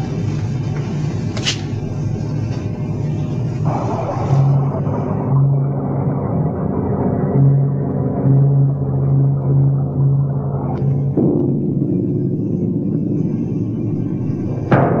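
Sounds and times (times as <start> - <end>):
dark suspense music: 0.0 - 15.0
low rumble: 0.0 - 15.0.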